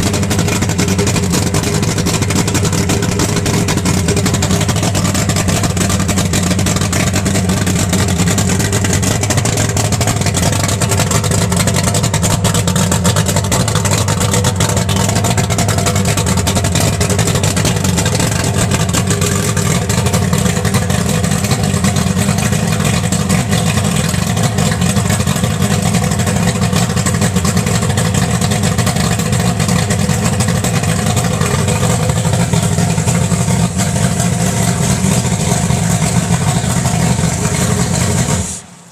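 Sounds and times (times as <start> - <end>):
outboard engine running: 0.0 - 38.9.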